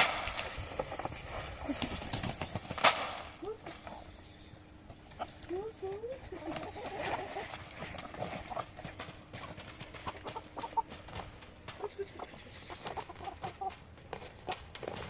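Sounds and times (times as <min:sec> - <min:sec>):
chickens clucking: 0:01.6 - 0:15.0.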